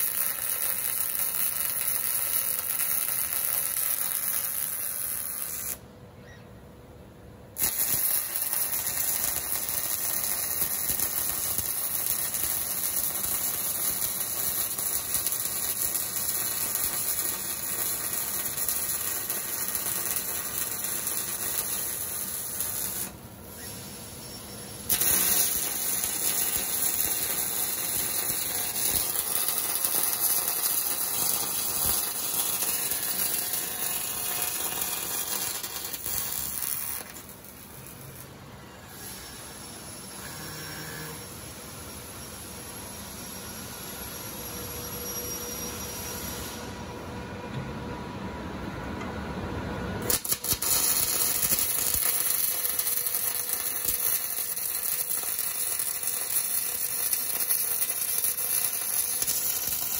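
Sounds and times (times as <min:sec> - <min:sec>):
welding arc burning: 0:00.0 - 0:05.8, 0:07.5 - 0:42.0, 0:50.0 - 0:59.9.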